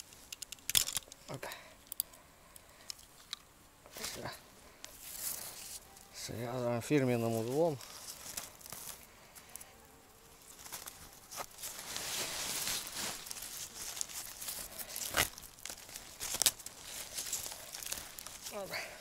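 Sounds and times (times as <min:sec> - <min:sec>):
twigs and leaves rustling: 0:00.0 - 0:19.0.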